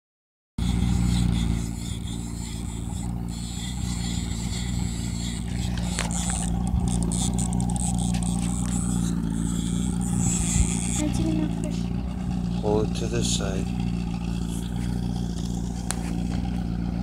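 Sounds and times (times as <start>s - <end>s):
outboard motor running: 0.6s - 17.0s.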